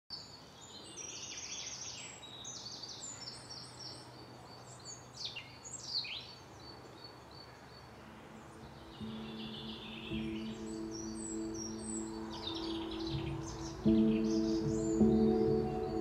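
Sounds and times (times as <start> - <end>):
small birds singing: 0.1 - 16.0.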